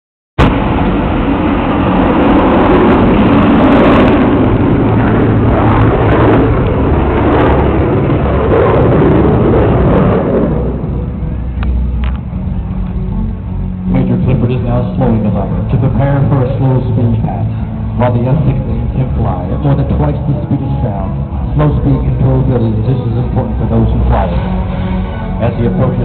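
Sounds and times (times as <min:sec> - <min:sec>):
jet aircraft passing: 0:00.4 - 0:26.0.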